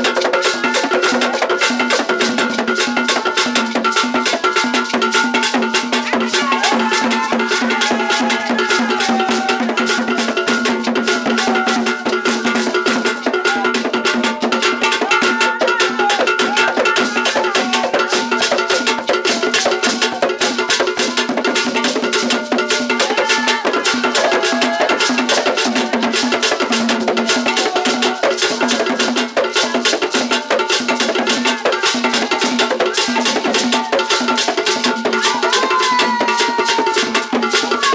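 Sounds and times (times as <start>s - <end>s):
drum ensemble playing: 0.0s - 37.9s
sharp clicking percussion: 0.0s - 37.9s.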